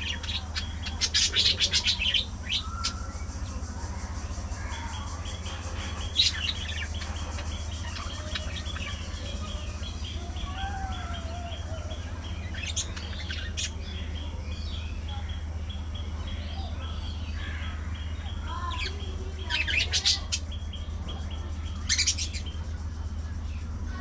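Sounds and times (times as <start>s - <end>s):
budgerigars chirping: 0.0s - 22.7s
steady low hum: 0.0s - 24.0s.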